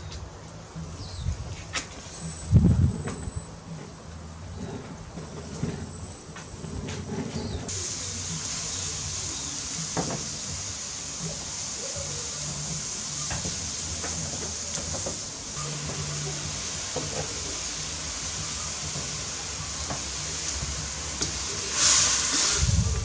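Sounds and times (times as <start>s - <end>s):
gas burner hissing: 0.0s - 23.0s.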